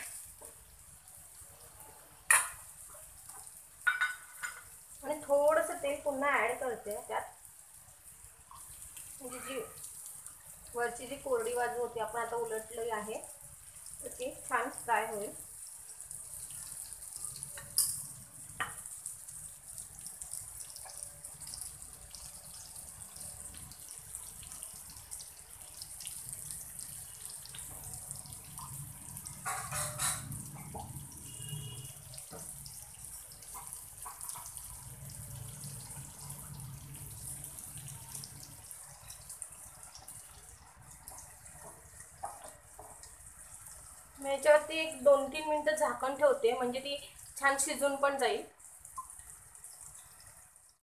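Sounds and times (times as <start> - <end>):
fish sizzling in oil: 0.0 - 50.8.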